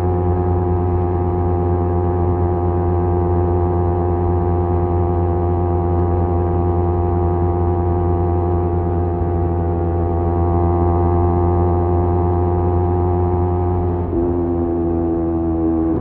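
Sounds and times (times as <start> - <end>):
motorcycle exhaust drone: 0.0 - 16.0.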